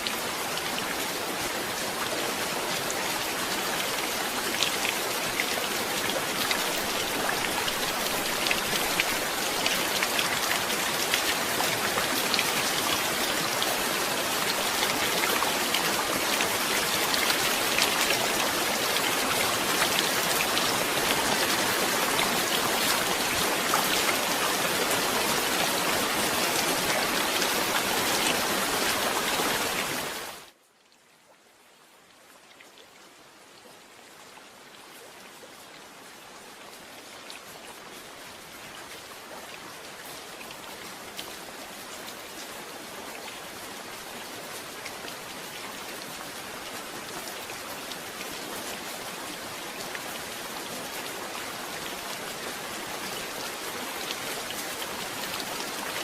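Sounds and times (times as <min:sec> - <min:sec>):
heavy rain: 0:00.0 - 0:30.7, 0:31.5 - 0:56.0.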